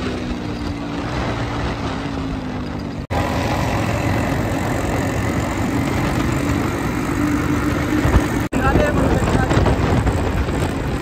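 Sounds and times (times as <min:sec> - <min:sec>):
wind noise on microphone: 0:00.0 - 0:03.0, 0:04.1 - 0:11.0
motorcycle engines running: 0:00.0 - 0:11.0.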